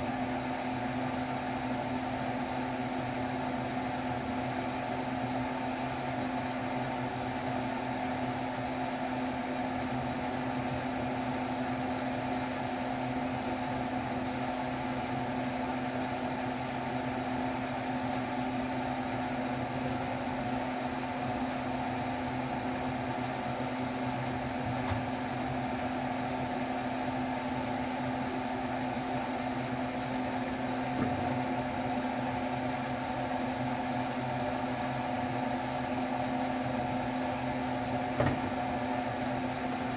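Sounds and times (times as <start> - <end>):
electric fan motor humming: 0.0 - 39.9.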